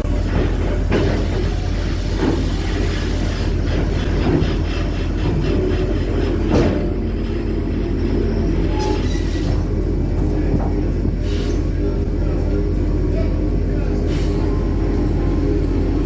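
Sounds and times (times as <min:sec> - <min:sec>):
rattling from vibrating ship: 0:00.0 - 0:16.0
ship engines rumbling: 0:00.0 - 0:16.0.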